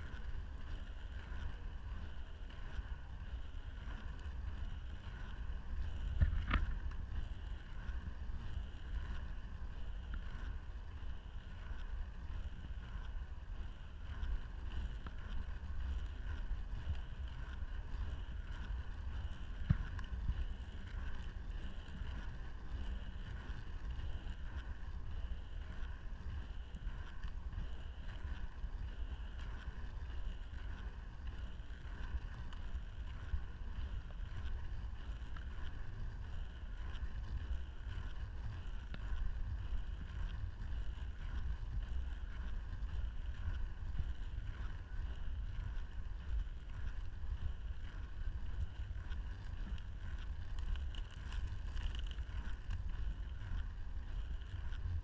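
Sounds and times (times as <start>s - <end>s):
skate wheels rolling on tarmac: 0.0s - 55.0s
wind on microphone: 0.0s - 55.0s.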